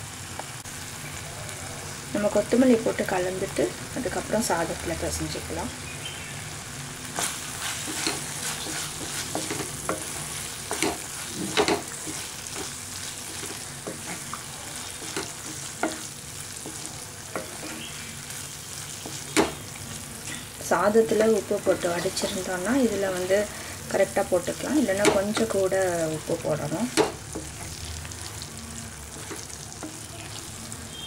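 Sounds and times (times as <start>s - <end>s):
food sizzling in pan: 0.0s - 31.0s
spatula scraping sizzling pan: 1.9s - 31.0s.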